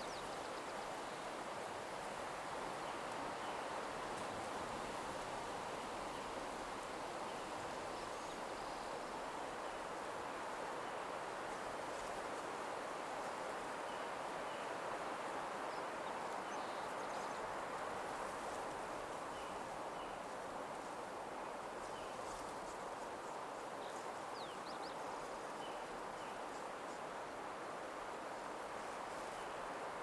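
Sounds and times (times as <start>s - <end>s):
wind rustling leaves: 0.0s - 30.0s.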